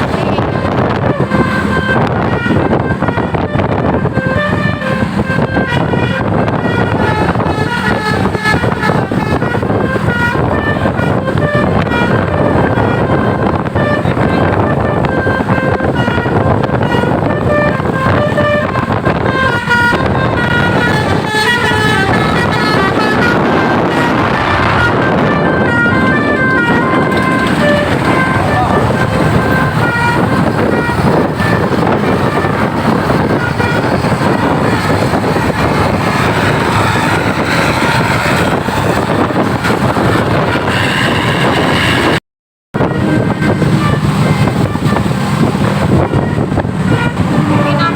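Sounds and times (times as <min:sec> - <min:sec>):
multi-tone air horn tune: 0:00.0 - 0:42.2, 0:42.8 - 0:47.9
steady noisy rush: 0:00.0 - 0:42.2, 0:42.8 - 0:47.9
vehicle engine and road rumble: 0:00.0 - 0:47.9.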